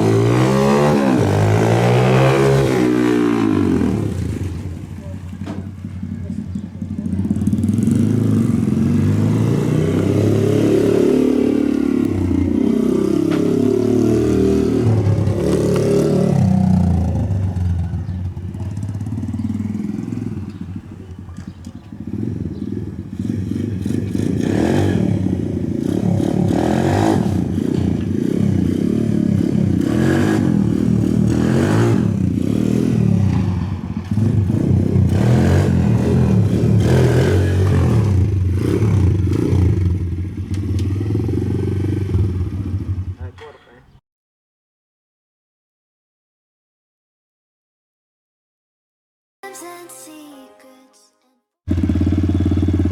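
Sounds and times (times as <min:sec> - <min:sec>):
motorbike engine revving: 0:00.0 - 0:43.1, 0:51.7 - 0:52.9.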